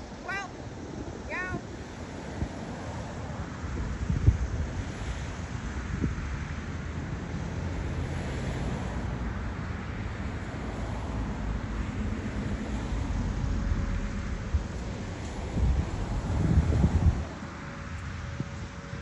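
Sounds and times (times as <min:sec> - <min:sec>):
road traffic rumble: 0:00.0 - 0:19.0
wind buffeting microphone: 0:00.0 - 0:19.0.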